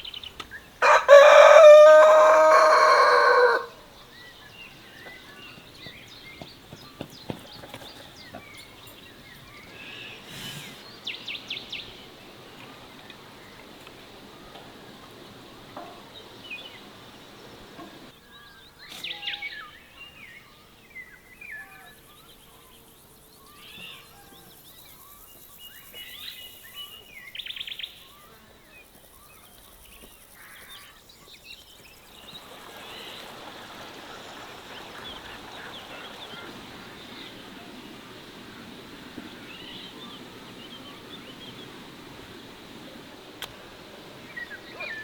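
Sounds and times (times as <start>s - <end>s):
birds chirping: 0.0s - 45.0s
faint outdoor hiss: 0.0s - 45.0s.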